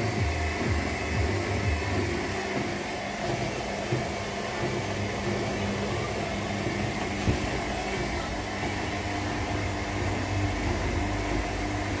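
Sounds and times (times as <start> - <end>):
washing machines humming: 0.0 - 12.0.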